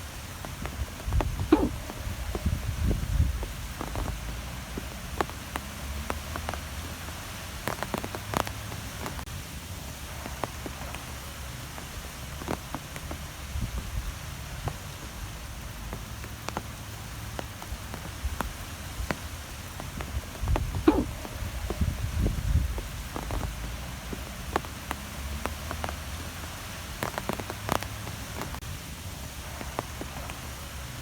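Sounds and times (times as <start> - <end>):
drops pattering: 0.0 - 28.6.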